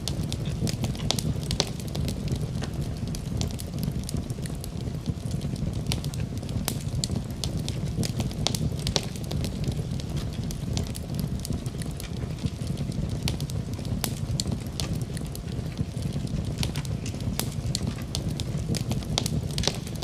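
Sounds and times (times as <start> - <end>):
fire pops and snaps: 0.0 - 20.0
low rumble of burning fire: 0.0 - 20.0.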